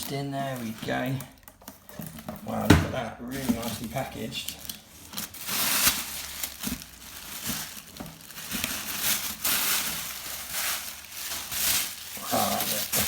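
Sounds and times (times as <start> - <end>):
packaging crinkling: 0.0 - 2.6, 3.2 - 13.0.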